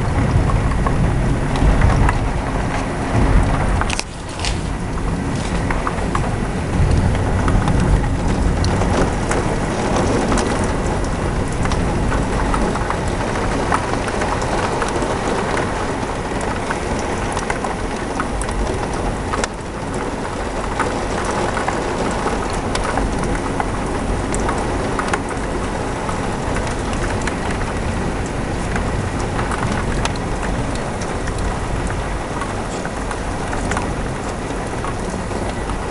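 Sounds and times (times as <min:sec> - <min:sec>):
heavy rain: 0:00.0 - 0:35.9
low thunder rumble: 0:00.0 - 0:35.9.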